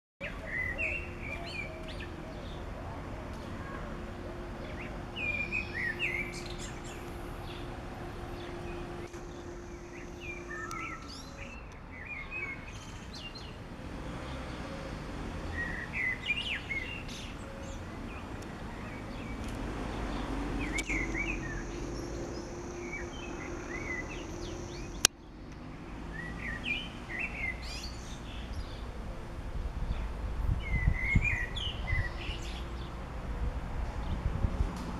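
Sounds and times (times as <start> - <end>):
outdoor background noise: 0.2 - 34.9
songbirds chirping: 0.2 - 34.9.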